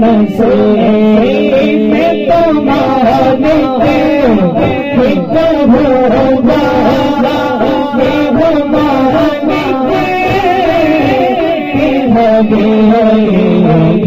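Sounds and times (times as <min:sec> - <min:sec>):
men singing devotional song: 0:00.0 - 0:14.0.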